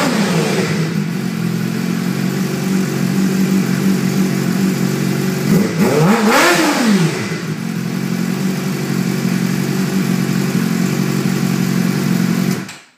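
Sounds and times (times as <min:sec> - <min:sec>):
motorcycle engine idling: 0:00.0 - 0:12.7.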